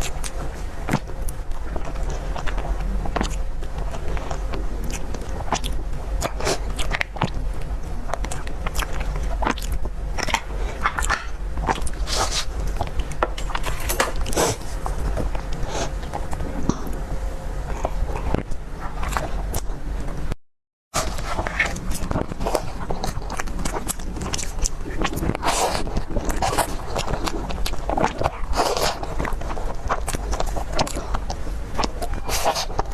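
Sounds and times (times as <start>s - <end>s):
person biting and chewing: 0.0s - 17.0s, 21.0s - 32.9s
low hum: 0.0s - 20.4s, 21.0s - 32.9s.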